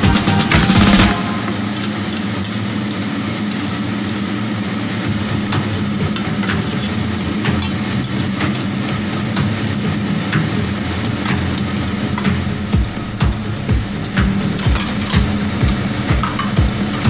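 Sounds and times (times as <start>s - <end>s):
low hum: 0.0s - 17.0s
vegetables sizzling in a wok: 0.0s - 17.0s.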